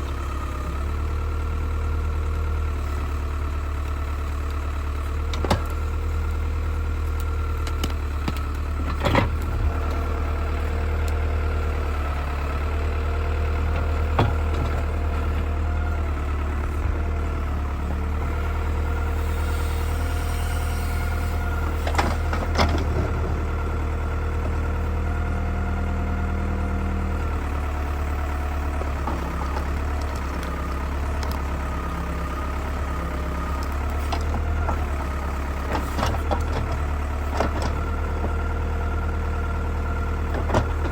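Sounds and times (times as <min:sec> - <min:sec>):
backhoe engine droning: 0:00.0 - 0:40.9.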